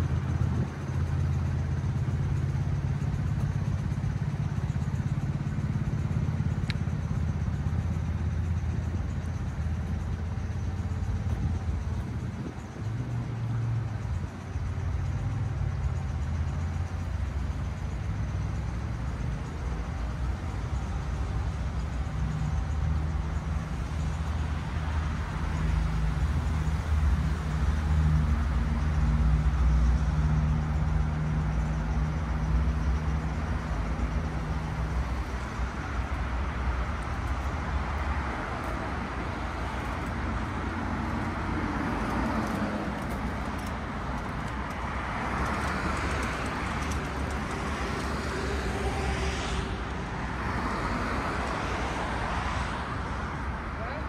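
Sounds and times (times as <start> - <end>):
cars passing: 0.0 - 54.0
vehicle engine humming: 0.0 - 54.0.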